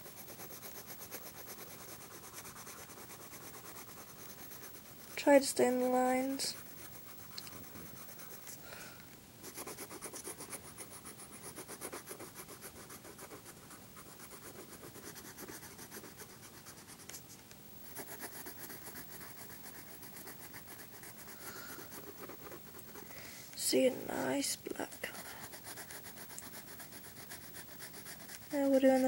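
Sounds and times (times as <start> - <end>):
pencil scratching on paper: 0.0 - 8.6, 9.4 - 23.1, 24.7 - 29.0.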